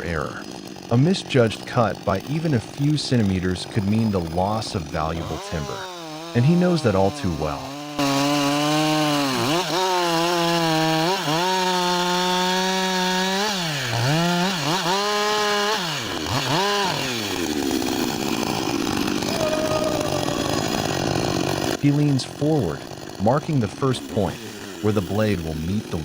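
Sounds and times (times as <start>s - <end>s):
chainsaw engine revving high: 0.0s - 26.0s.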